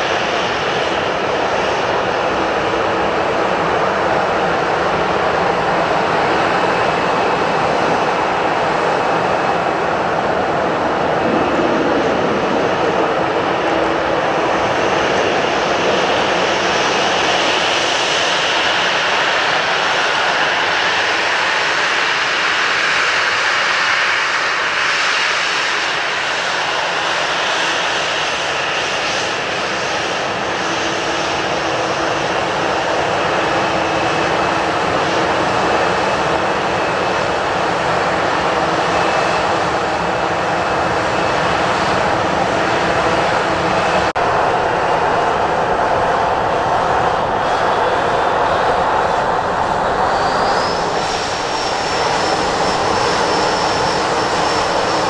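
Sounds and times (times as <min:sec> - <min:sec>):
jet engines taxiing: 0:00.0 - 0:55.0.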